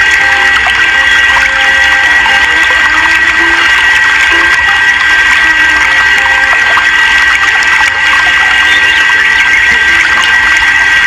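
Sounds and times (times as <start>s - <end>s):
rushing water-like noise: 0.0s - 11.0s
small motor whining: 0.0s - 11.0s.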